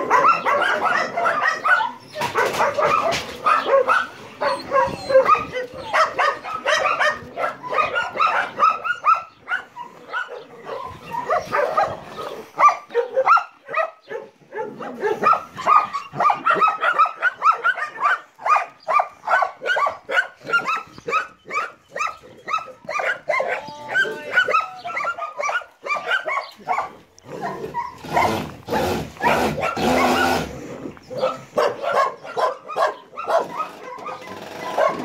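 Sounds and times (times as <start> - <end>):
many dogs barking: 0.0 - 35.0.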